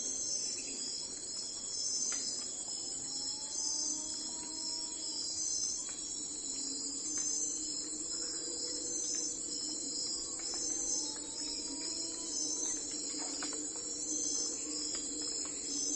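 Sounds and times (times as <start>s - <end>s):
crickets chirping: 0.0s - 15.9s.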